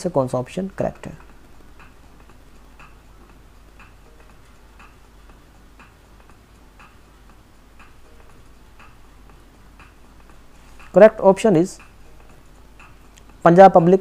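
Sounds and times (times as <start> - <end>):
low steady hum: 0.0 - 14.0
clock ticking faintly: 0.5 - 14.0.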